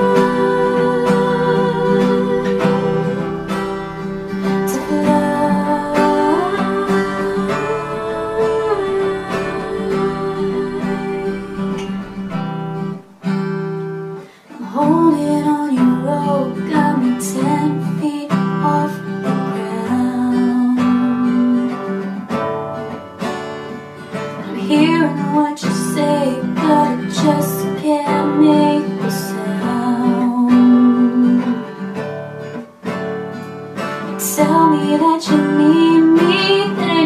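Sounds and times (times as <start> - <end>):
woman singing: 0.0 - 13.0, 14.2 - 22.2, 24.4 - 31.9, 34.0 - 37.0
acoustic guitar strumming chords: 0.0 - 37.0.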